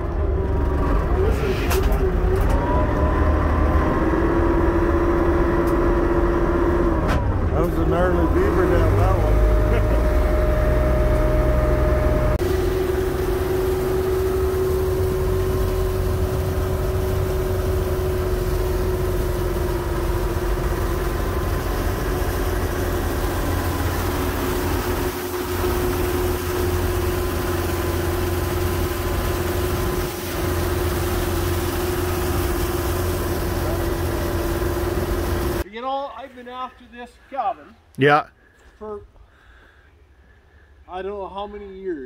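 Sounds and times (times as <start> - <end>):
engine whine: 0.0 - 35.6
diesel engine drone: 0.0 - 35.7.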